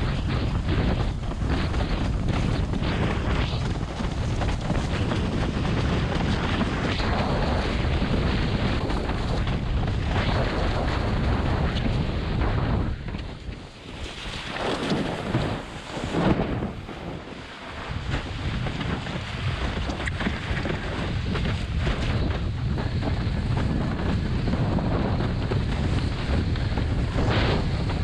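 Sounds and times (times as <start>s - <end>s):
water splashing and rushing: 0.0s - 28.0s
wind buffeting microphone: 0.0s - 28.0s.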